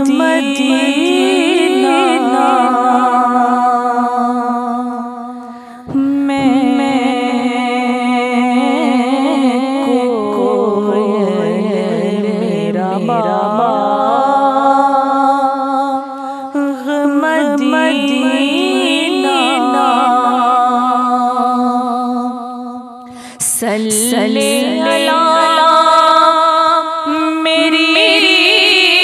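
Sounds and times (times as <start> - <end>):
woman singing: 0.0 - 29.0.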